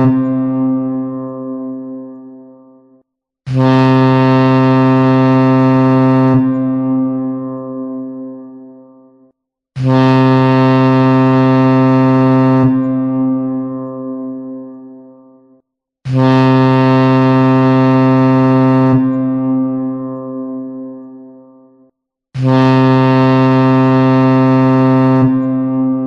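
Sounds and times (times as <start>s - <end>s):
ship's horn blasts: 0.0s - 21.8s, 22.4s - 26.0s.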